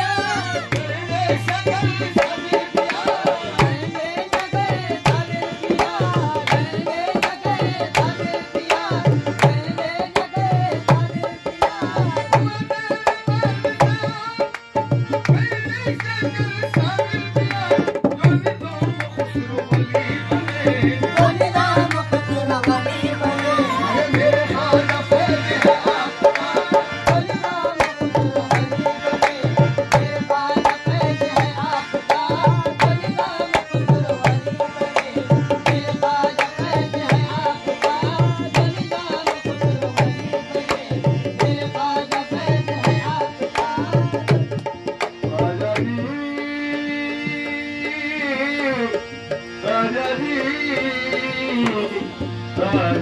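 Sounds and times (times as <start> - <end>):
harmonium chords: 0.0 - 53.0.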